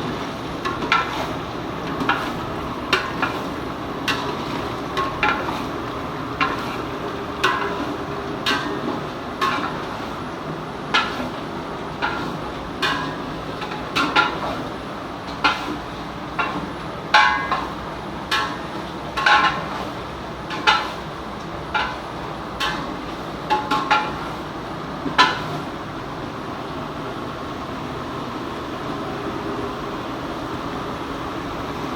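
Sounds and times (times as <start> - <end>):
frying hiss: 0.0 - 31.9.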